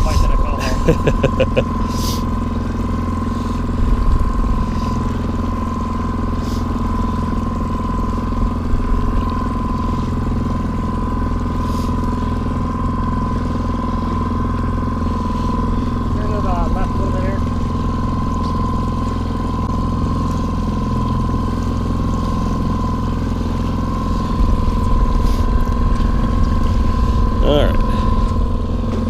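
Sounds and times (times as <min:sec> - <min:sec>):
boat motor droning: 0:00.0 - 0:29.0
high-pitched motor whine: 0:00.0 - 0:29.0.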